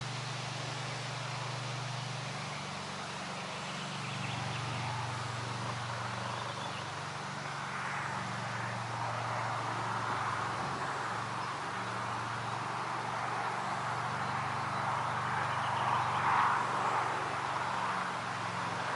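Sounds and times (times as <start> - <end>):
wind over a pond: 0.0 - 18.9.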